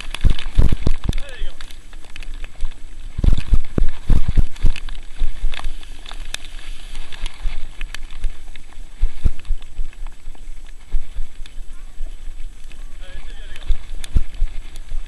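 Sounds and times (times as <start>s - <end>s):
kart rolling over rough trail: 0.0s - 15.0s.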